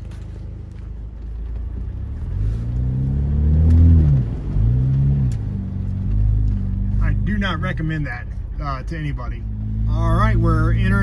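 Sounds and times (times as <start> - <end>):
car engine revving: 0.7 - 11.0.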